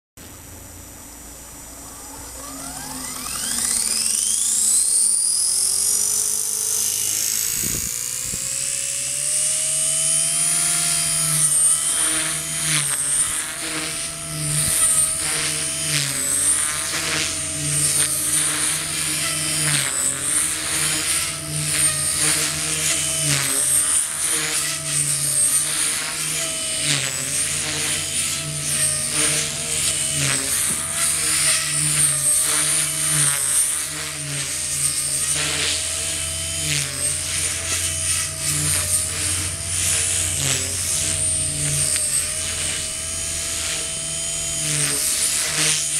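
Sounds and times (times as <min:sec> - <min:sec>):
rc helicopter motor whine: 0:00.2 - 0:45.9.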